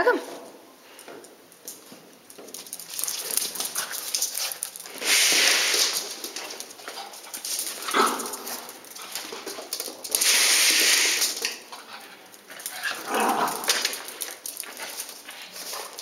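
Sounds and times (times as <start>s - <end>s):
dogs scuffling: 0.3s - 16.0s
dog claws clicking on floor: 1.0s - 16.0s.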